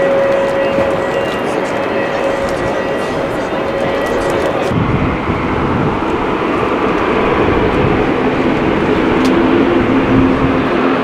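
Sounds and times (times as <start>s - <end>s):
jet engines taxiing: 0.0s - 11.0s
low hum: 0.0s - 11.0s.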